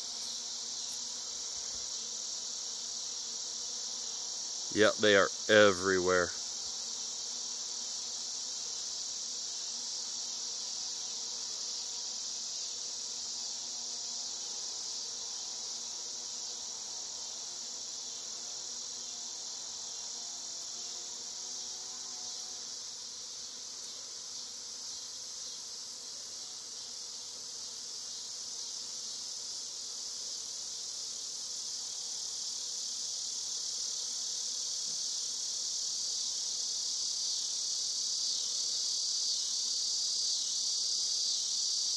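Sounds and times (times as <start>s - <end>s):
high-pitched insect chorus: 0.0s - 41.9s
honeybees buzzing: 0.0s - 41.9s.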